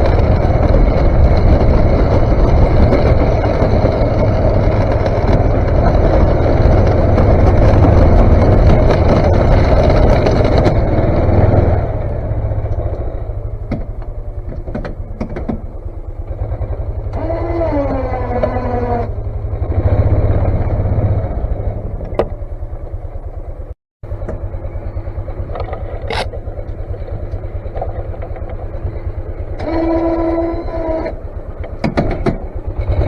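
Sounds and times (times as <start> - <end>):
sharp clicks and knocks: 0.0 - 19.1, 21.9 - 23.0, 24.1 - 24.5, 25.4 - 33.0
snow plow engine: 0.0 - 33.0.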